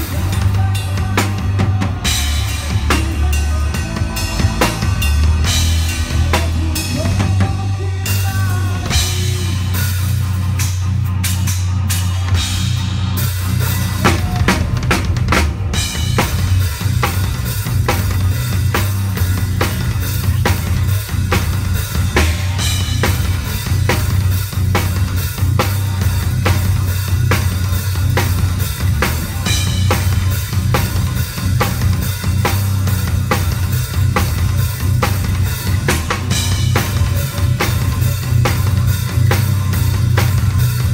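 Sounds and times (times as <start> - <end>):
bass guitar: 0.0 - 40.9
drum kit playing: 0.0 - 40.9.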